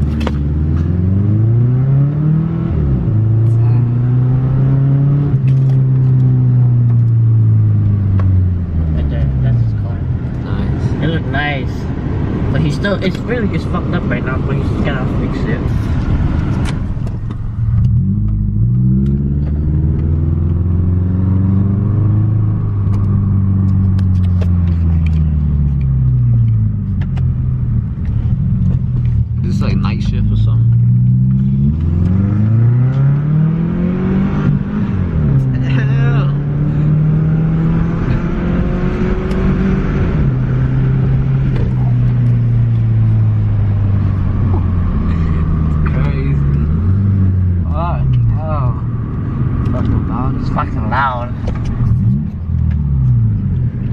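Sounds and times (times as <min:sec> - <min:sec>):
car engine exhaust revving: 0:00.0 - 0:53.9.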